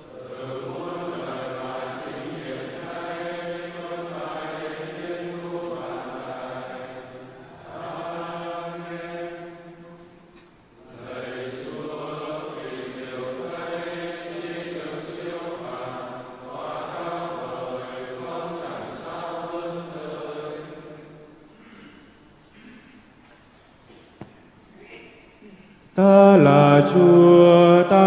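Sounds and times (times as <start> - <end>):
group singing slow chant: 0.0 - 22.7, 26.0 - 28.0.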